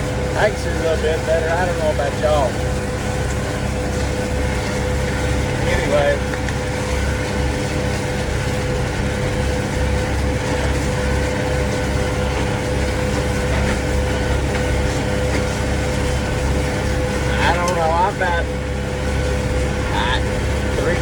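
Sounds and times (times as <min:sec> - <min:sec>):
constant higher hum: 0:00.0 - 0:21.0
tractor engine drone: 0:00.0 - 0:21.0.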